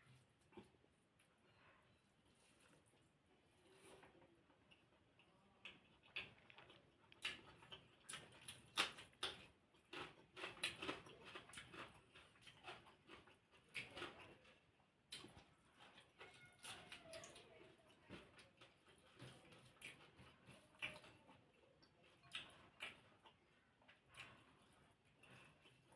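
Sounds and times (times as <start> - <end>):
person chewing crunchy food: 3.6 - 17.4, 18.0 - 25.9.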